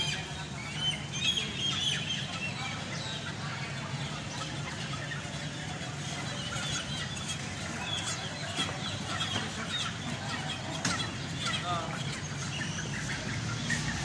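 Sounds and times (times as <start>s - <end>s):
chickens clucking and calling: 0.0s - 14.0s.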